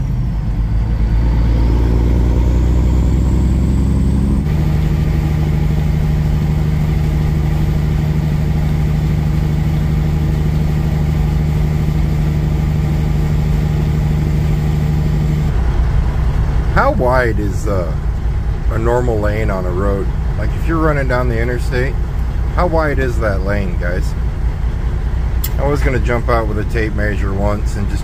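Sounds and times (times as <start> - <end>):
truck diesel engine drone: 0.0 - 28.0.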